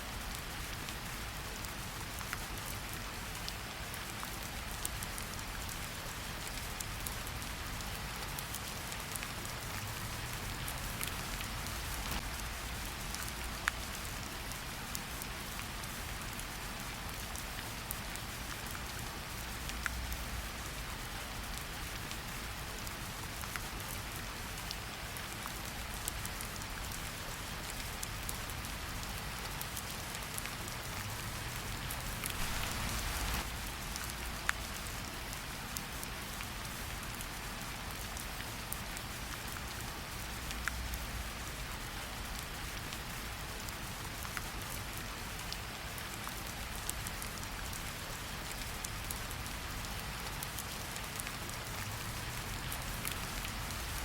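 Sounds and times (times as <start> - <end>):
rain falling in a forest: 0.0 - 54.0
raindrops ticking close by: 0.1 - 54.0.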